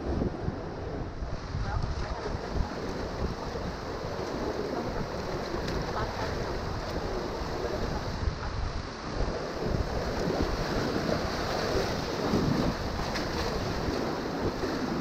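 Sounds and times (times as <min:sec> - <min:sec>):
wind buffeting microphone: 0:00.0 - 0:15.0
river water rushing: 0:01.2 - 0:15.0.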